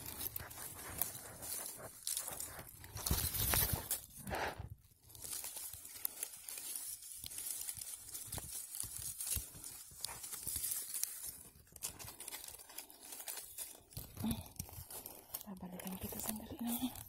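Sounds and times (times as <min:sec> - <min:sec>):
dry leaf litter crackling underfoot: 0:00.0 - 0:17.0.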